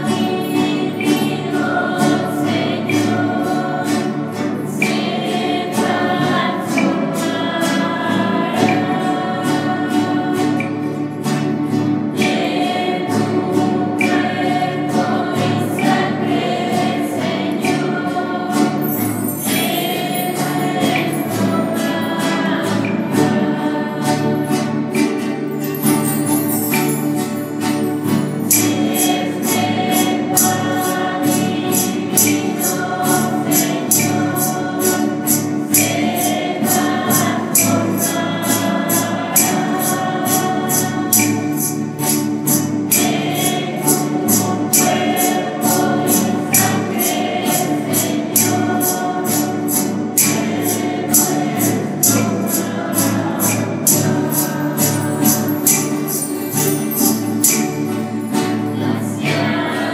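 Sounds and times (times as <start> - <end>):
choir singing a hymn: 0.0 - 59.9
instrumental accompaniment: 0.0 - 59.9
steady percussion beat: 0.0 - 59.9.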